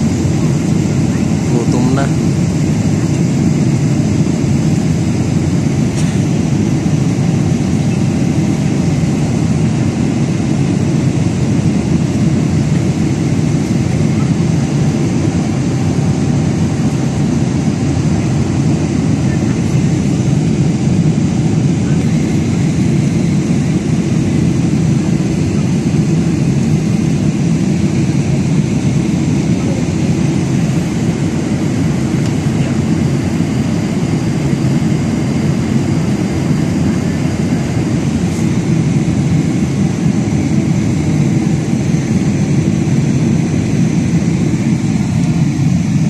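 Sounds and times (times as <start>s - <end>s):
airliner cabin engine rush: 0.0s - 46.0s.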